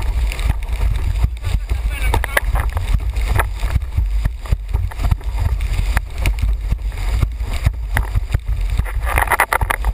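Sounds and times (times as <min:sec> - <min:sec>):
board hull slapping water: 0:00.0 - 0:09.9
wind rumbling on microphone: 0:00.0 - 0:09.9.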